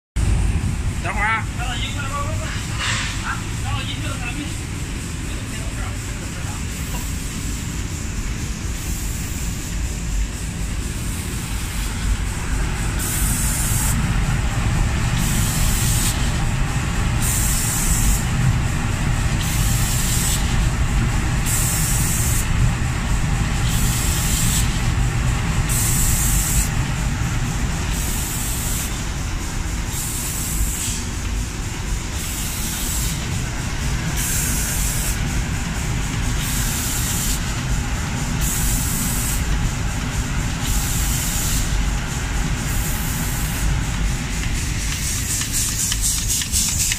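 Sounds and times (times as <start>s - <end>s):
low machine rumble: 0.2s - 46.9s
spray guns hissing: 1.1s - 46.9s.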